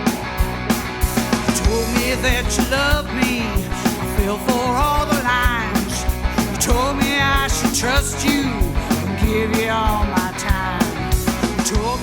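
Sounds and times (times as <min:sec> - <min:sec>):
rock band playing: 0:00.0 - 0:12.0
steady drum beat: 0:00.0 - 0:12.0.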